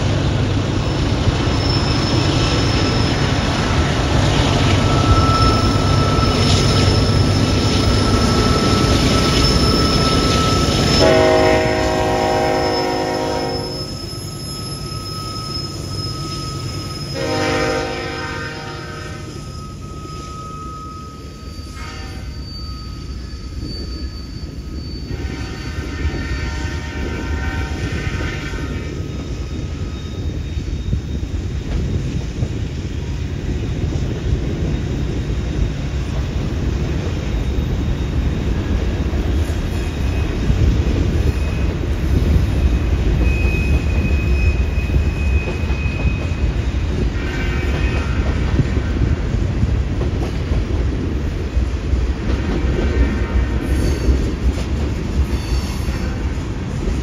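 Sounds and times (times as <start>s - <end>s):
train wheels rumbling on rail: 0.0s - 57.0s
high-pitched wheel squeals: 0.8s - 31.7s, 37.0s - 49.2s, 52.5s - 56.5s.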